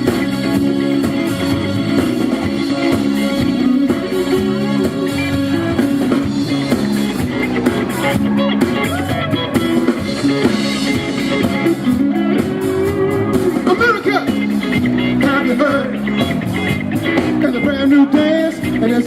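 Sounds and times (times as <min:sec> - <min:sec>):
drum kit: 0:00.0 - 0:19.0
funk band playing: 0:00.0 - 0:19.0
guitar: 0:00.0 - 0:19.0.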